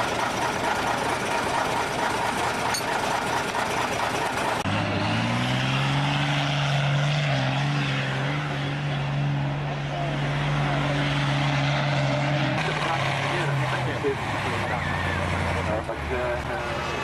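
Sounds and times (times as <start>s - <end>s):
deep engine drone: 0.0s - 17.0s
rough diesel truck engine: 0.0s - 17.0s.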